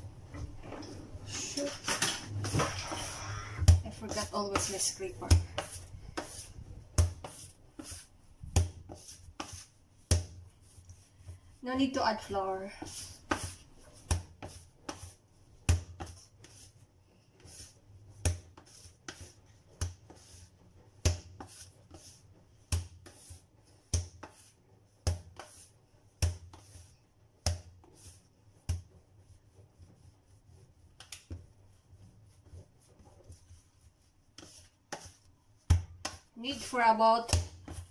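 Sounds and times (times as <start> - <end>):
dough thumping on stone countertop: 3.6 - 12.2, 12.8 - 16.8, 17.4 - 30.0, 30.9 - 37.9.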